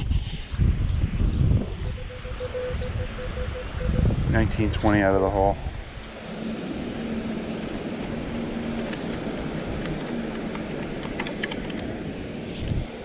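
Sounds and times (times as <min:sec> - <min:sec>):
wind: 0:00.0 - 0:13.0
surf on a beach: 0:01.4 - 0:13.0.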